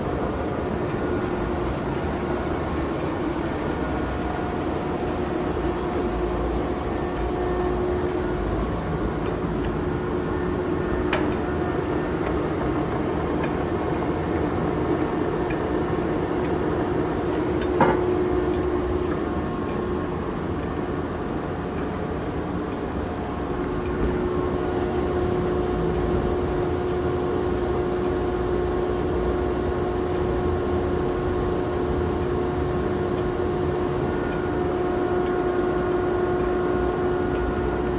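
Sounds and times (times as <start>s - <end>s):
lathe humming: 0.0s - 37.9s.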